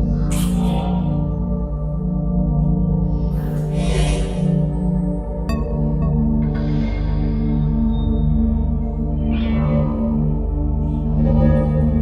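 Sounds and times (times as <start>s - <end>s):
electronic ambient drone: 0.0s - 12.0s.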